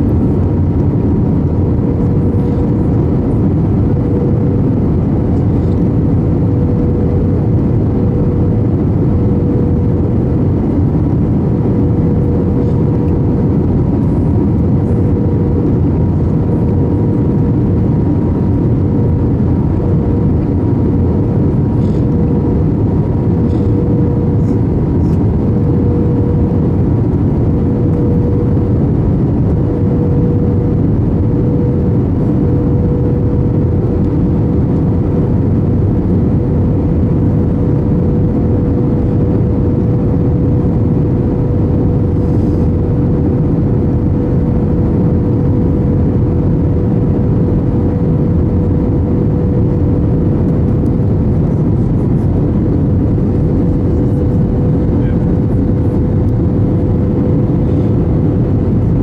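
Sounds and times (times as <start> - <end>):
droning hum: 0.0 - 59.0
jet engine noise: 0.0 - 59.0
rush of airflow: 0.0 - 59.0.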